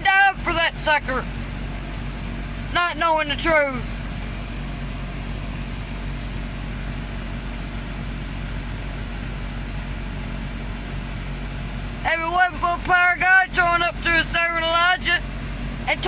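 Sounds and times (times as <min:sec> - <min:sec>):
low mechanical hum and rumble: 0:00.0 - 0:16.0.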